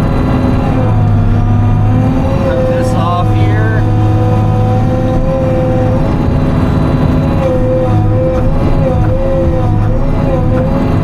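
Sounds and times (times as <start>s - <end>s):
diesel engine and hydraulics under load: 0.0s - 11.0s.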